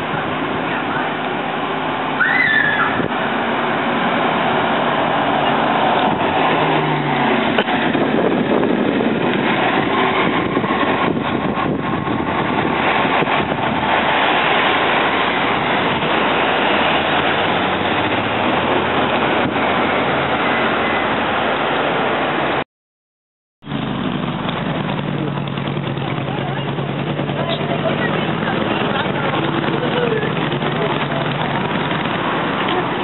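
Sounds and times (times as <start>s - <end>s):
bus driving past: 0.0s - 22.6s, 23.6s - 33.0s
street traffic noise: 0.0s - 22.6s, 23.6s - 33.0s.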